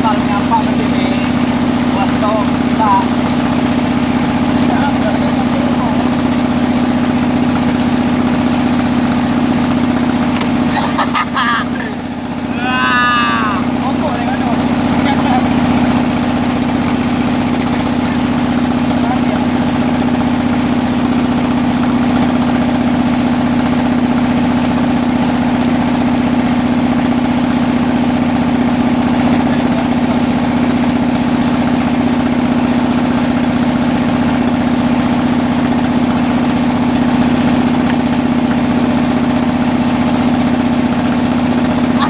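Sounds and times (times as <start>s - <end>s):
engine humming steadily: 0.0s - 42.0s.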